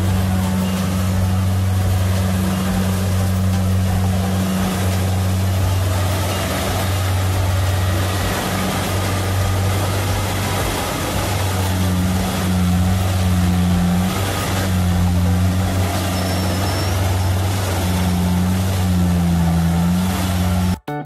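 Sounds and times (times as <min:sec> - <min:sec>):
combine harvester diesel engine: 0:00.0 - 0:20.8
rush of machinery noise: 0:00.0 - 0:20.8.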